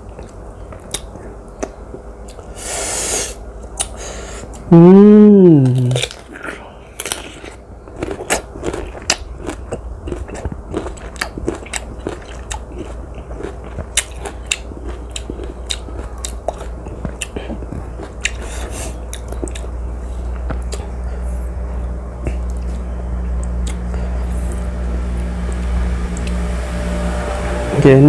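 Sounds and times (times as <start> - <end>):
crunchy chewing of fruit: 0.0 - 4.7, 5.6 - 26.5.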